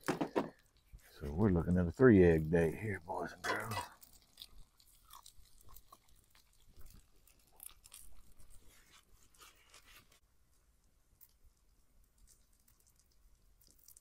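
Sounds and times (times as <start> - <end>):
eggs crackling in a skillet: 0.5 - 10.2, 11.2 - 14.0.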